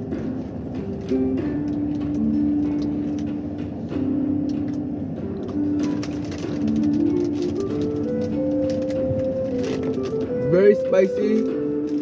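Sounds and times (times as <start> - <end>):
background music of long held notes: 0.0 - 12.0.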